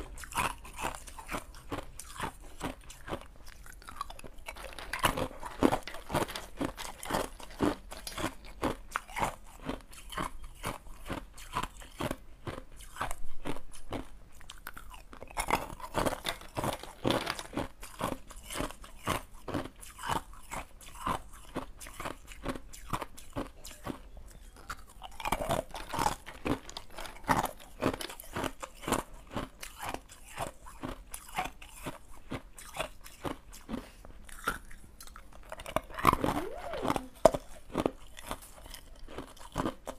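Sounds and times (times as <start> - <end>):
ice cubes crunching: 0.0 - 39.9.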